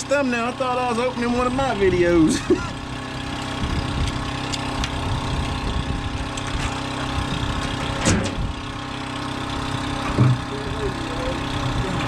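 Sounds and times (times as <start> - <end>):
motor idling: 0.0 - 12.0.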